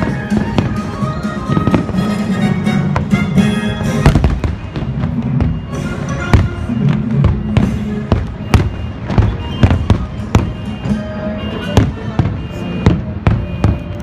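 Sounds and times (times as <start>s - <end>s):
fireworks bursting: 0.0s - 14.0s
fireworks show music: 0.0s - 14.0s.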